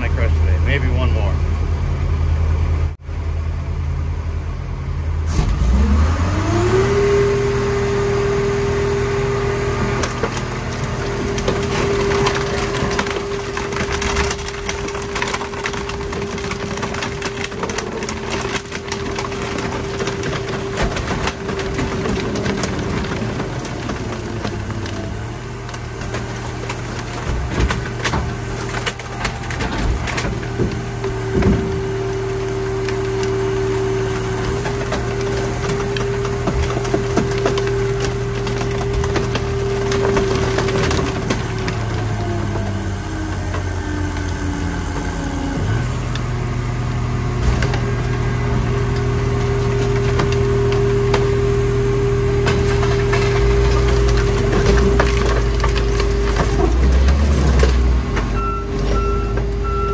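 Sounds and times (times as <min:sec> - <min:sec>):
car crusher engine whining: 0:01.4 - 0:59.9
car body crunching and cracking: 0:09.6 - 0:59.6.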